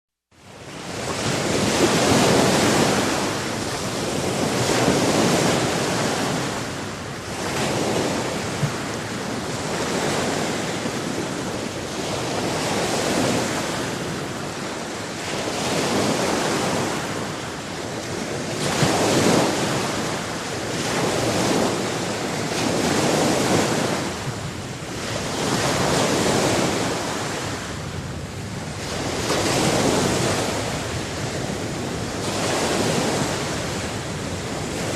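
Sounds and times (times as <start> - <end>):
ocean waves breaking on shore: 0.4 - 34.9
wind on microphone: 0.4 - 34.9.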